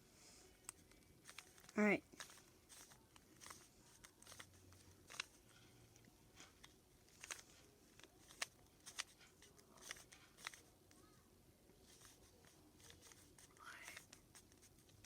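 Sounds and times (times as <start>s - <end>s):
puzzle cube clicking: 0.6s - 11.1s, 11.8s - 15.0s.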